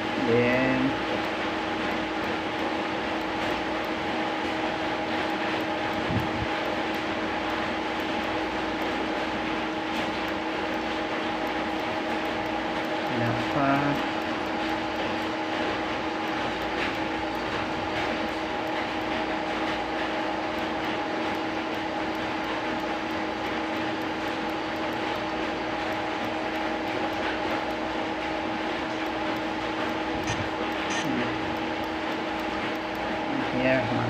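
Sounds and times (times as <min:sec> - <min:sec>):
machine motor hum and whir: 0:00.0 - 0:34.0.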